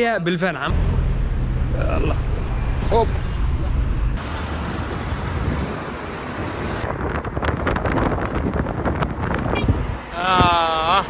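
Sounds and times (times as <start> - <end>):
car wind and road noise: 0.6 - 11.0
wind gusting on microphone: 1.7 - 10.9.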